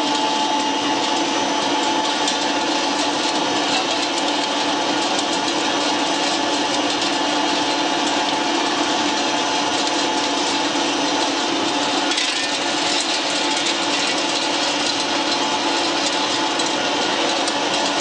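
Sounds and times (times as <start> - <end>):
pellet mill running: 0.0 - 18.0
wood pellets dropping: 2.1 - 18.0.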